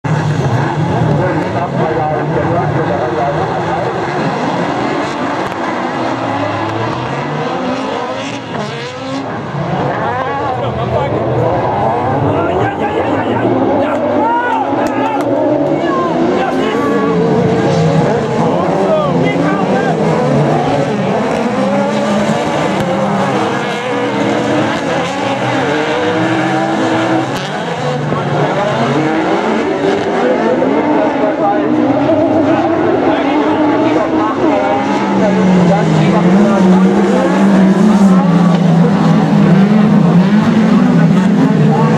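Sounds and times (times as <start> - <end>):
racing buggy engines revving: 0.0 - 41.9.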